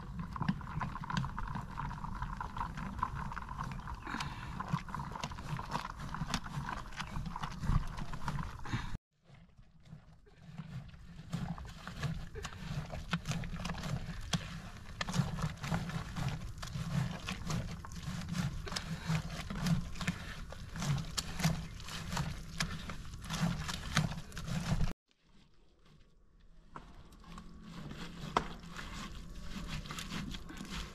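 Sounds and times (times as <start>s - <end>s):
wet squelching of fruit pulp: 0.0s - 9.0s, 9.8s - 25.0s, 28.2s - 30.9s.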